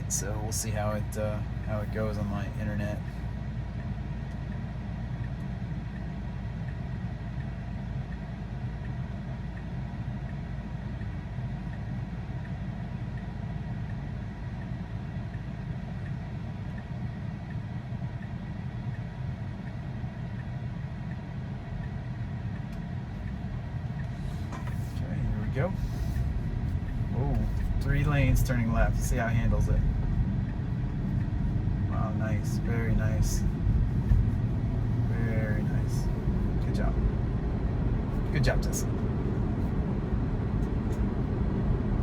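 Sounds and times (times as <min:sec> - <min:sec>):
road noise inside car cabin: 0:00.0 - 0:42.0.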